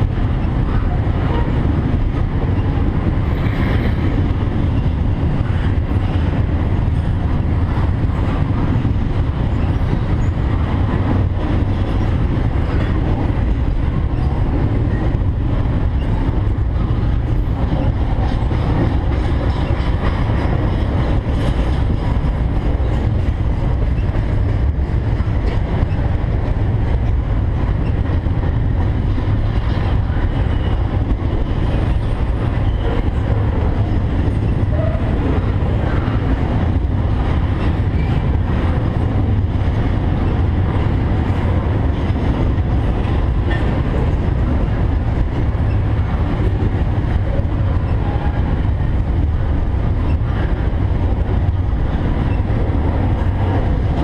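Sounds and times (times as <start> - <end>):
freight train cars rolling past: 0.0 - 54.0.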